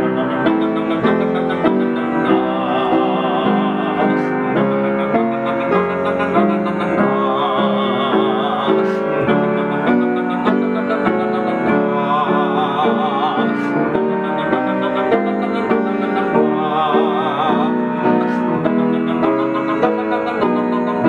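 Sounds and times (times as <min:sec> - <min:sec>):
man singing warm-up: 0:00.0 - 0:21.0
upright piano chords: 0:00.0 - 0:21.0.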